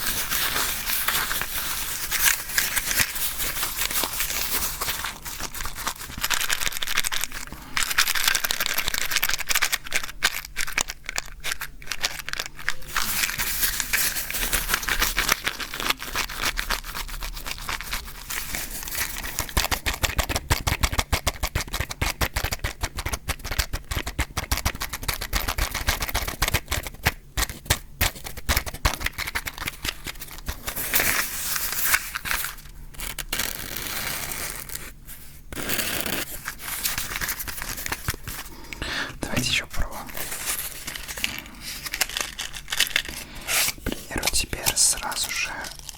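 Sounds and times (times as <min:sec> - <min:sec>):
matchbox rattling and scraping: 0:00.0 - 0:20.7, 0:24.7 - 0:38.5, 0:39.3 - 0:45.9.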